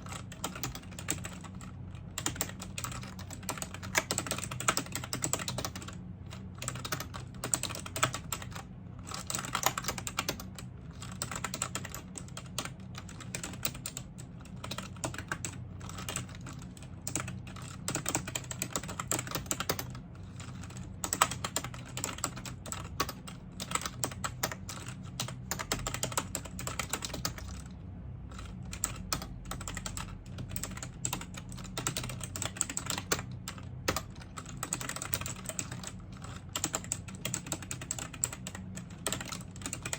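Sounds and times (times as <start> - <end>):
keyboard typing: 0.0 - 27.7, 28.3 - 39.9.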